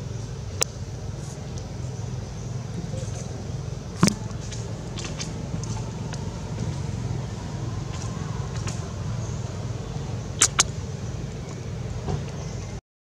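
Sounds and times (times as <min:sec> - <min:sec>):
low outdoor rumble: 0:00.0 - 0:12.8.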